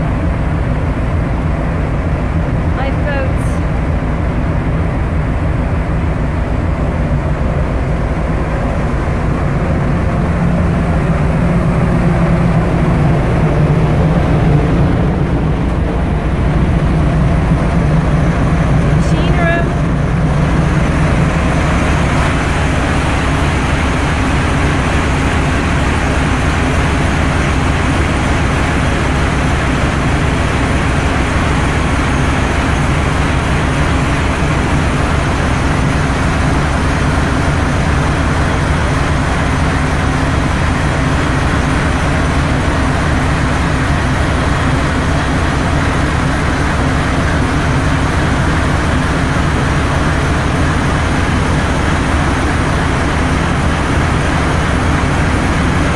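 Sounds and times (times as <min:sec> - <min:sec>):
engine-room machinery drone: 0:00.0 - 0:55.9.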